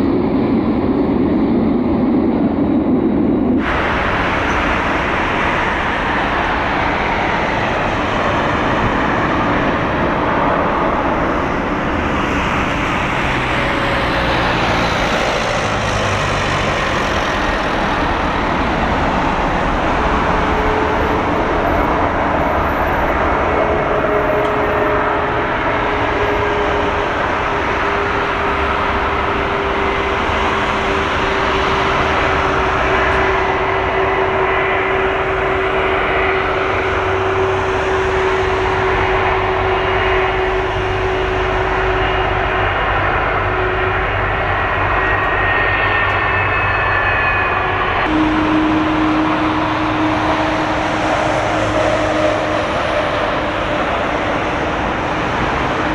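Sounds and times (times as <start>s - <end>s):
moving vehicle rumble and hiss: 3.5s - 55.9s.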